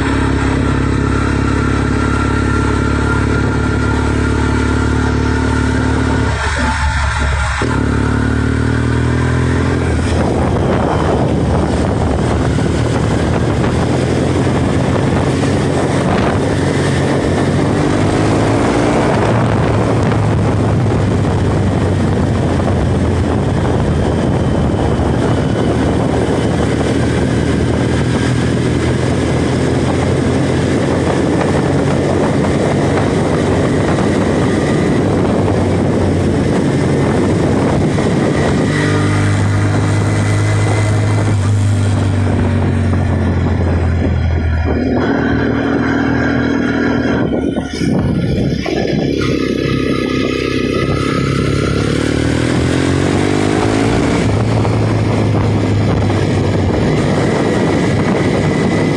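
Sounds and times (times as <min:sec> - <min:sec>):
motorbike engine running: 0:00.0 - 0:58.9
wind rushing over microphone: 0:00.0 - 0:58.9.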